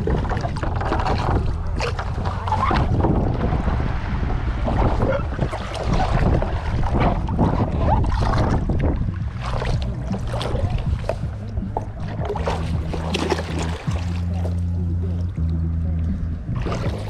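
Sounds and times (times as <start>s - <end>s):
water splashing around kayak: 0.0s - 17.0s
wind rumble on microphone: 0.0s - 17.0s.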